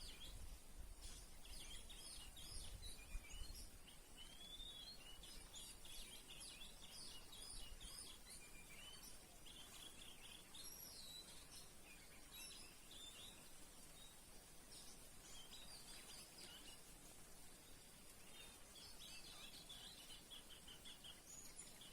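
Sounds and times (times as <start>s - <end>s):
songbird chirping and whistling: 0.0s - 16.9s, 17.7s - 21.9s
steady background hiss: 0.0s - 21.9s.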